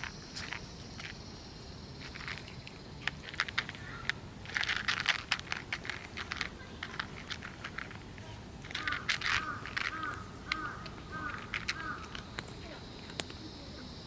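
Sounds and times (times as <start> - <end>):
sharp clicks and crackles: 2.0 - 13.4.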